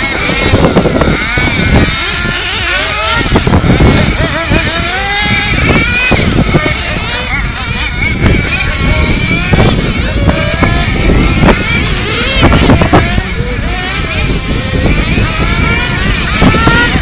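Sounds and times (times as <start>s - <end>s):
model car motors whining: 0.0s - 17.0s.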